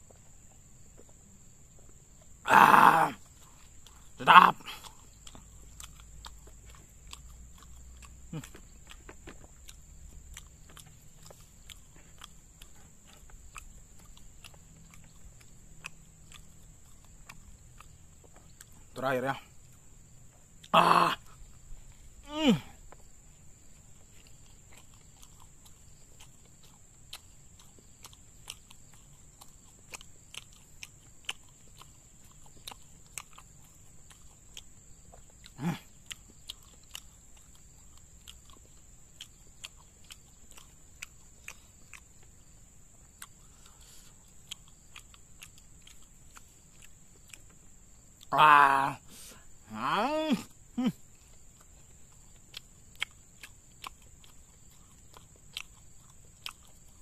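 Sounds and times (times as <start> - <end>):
chewing with mouth clicks: 0.0 - 57.0.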